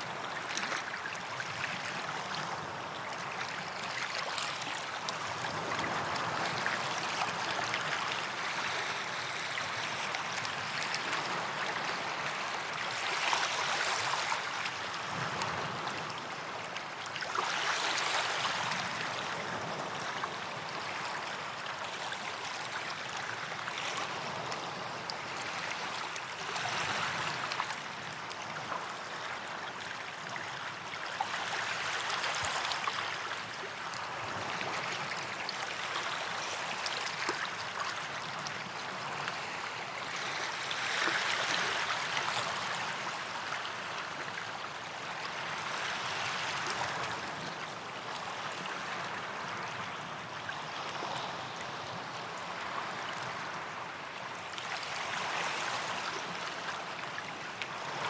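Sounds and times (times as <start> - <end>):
small waves washing onto beach: 0.0 - 58.0.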